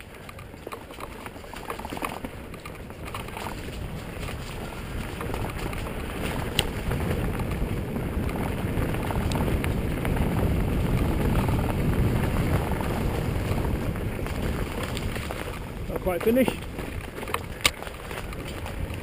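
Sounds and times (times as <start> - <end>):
bike rattling over bumps: 0.0 - 19.0
tyres rumbling on dirt: 0.0 - 19.0.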